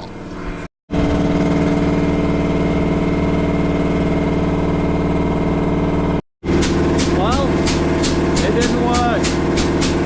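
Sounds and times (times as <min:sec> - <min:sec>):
air compressor running: 0:00.1 - 0:10.0.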